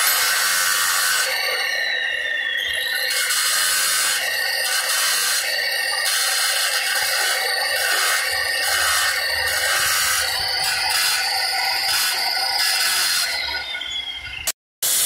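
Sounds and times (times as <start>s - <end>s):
marble cutter grinding: 0.0s - 13.9s.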